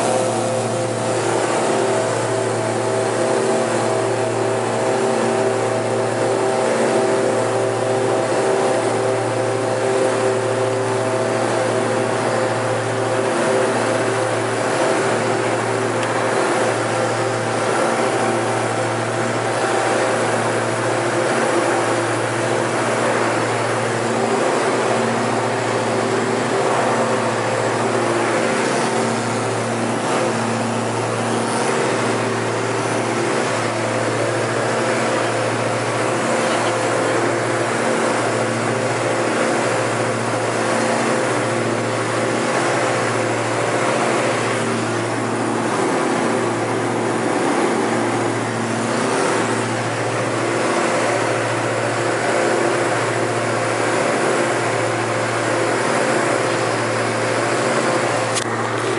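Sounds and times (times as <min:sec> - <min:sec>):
aircraft engines throbbing drone: 0:00.0 - 0:58.9.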